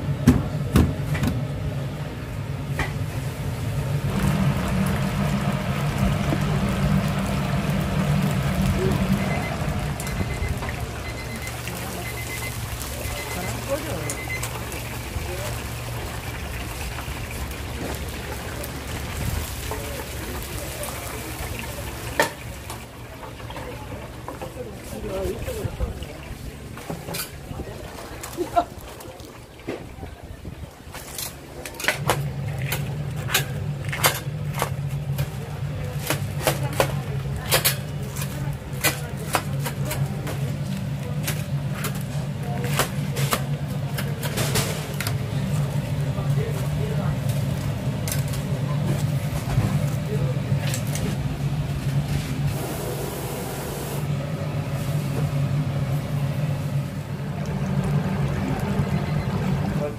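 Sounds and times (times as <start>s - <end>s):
low machinery hum: 0.0s - 30.8s, 31.5s - 59.9s.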